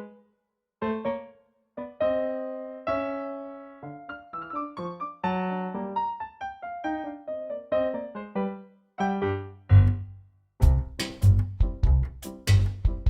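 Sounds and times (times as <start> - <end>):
solo piano: 0.0 - 13.0.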